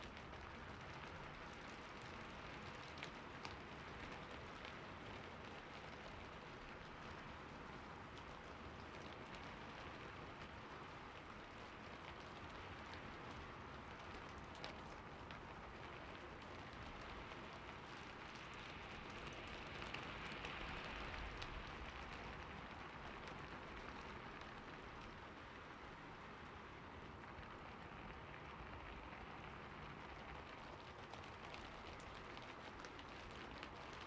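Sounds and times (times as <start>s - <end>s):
rain falling on a roof: 0.0s - 34.0s.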